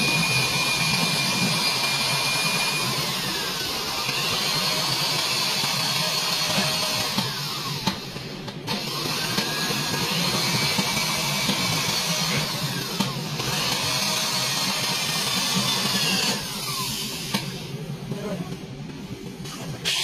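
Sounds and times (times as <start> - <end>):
electric drill boring into sheet metal: 0.0 - 17.7.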